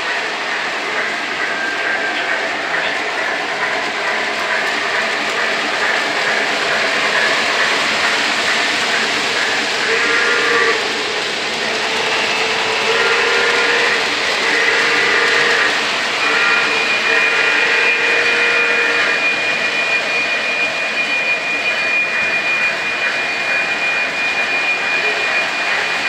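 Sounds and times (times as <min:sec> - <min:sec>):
model train wheels rumbling: 0:00.0 - 0:26.0.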